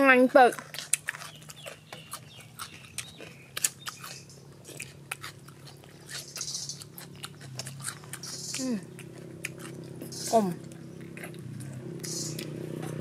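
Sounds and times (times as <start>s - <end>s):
chewing: 0.3s - 13.0s.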